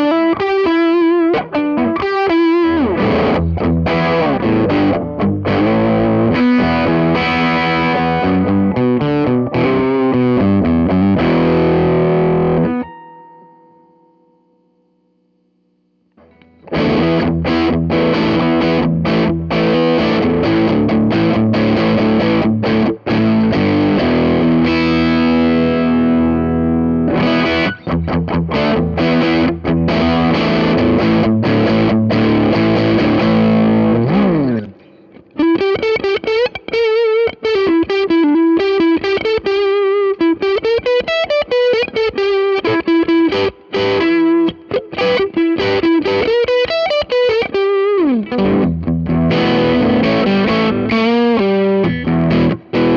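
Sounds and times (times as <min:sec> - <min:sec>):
guitar lead with vibrato: 0:00.0 - 0:15.5, 0:16.1 - 0:52.9
distorted electric guitar chords: 0:00.0 - 0:52.9
guitar pitch dive: 0:00.0 - 0:52.9.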